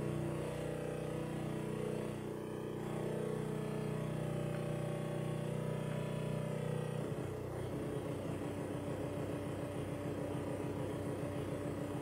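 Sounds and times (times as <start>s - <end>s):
synthesizer drone: 0.0s - 12.0s.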